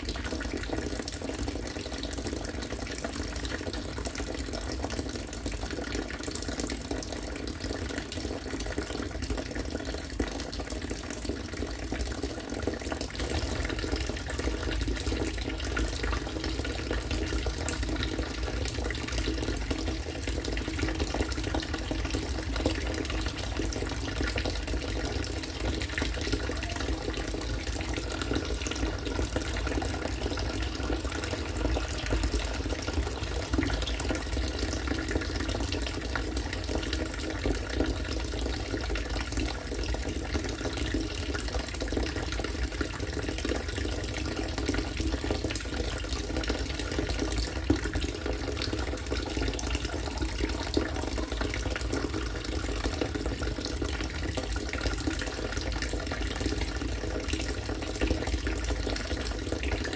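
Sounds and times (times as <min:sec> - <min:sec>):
water pouring into water: 0:00.0 - 0:59.9.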